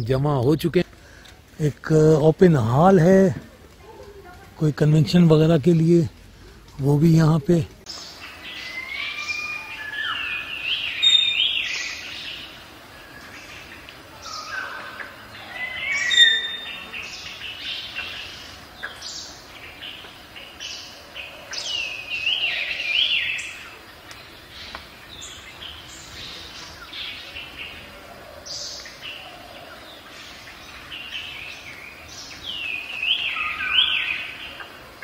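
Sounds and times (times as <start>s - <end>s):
songbirds singing: 0.0s - 35.0s.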